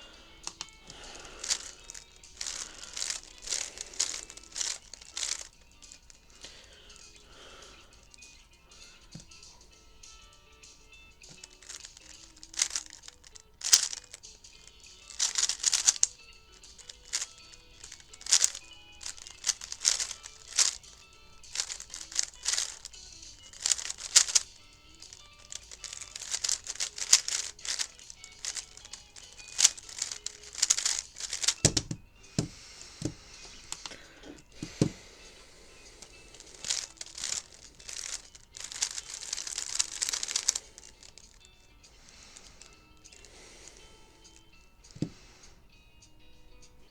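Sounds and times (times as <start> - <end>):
faint music: 0.0 - 46.9
plastic puzzle cube clicking: 0.4 - 35.0, 36.0 - 41.4.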